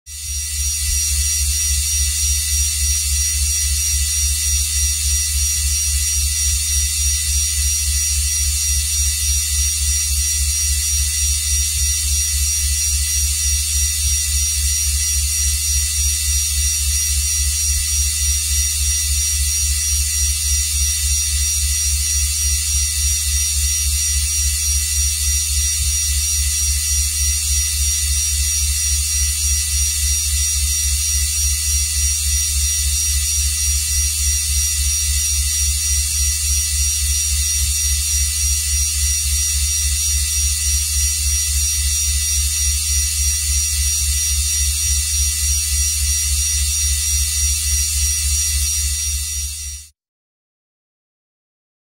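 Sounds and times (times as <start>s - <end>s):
pulsing low electric hum: 0.1s - 49.8s.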